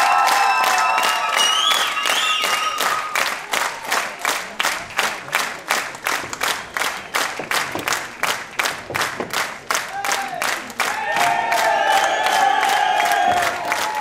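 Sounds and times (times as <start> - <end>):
audience clapping in unison: 0.0 - 14.0.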